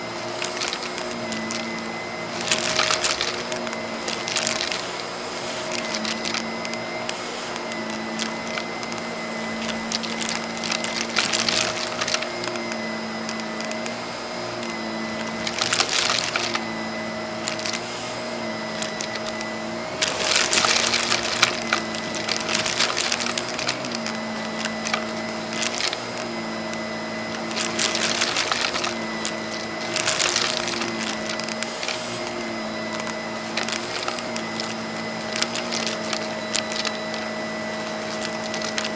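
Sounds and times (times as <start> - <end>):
cardboard pieces rattling through hose: 0.0 - 38.9
vacuum cleaner running: 0.0 - 38.9.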